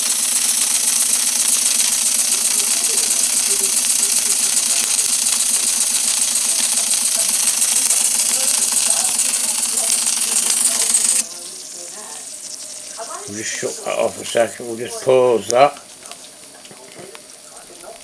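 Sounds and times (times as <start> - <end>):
steam engine hissing and rattling: 0.0 - 18.0.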